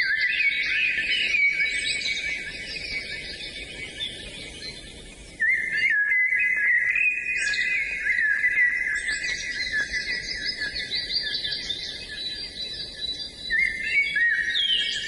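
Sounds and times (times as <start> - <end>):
bird warbling song: 0.0 - 15.0
faint high bird chirping: 0.0 - 15.0.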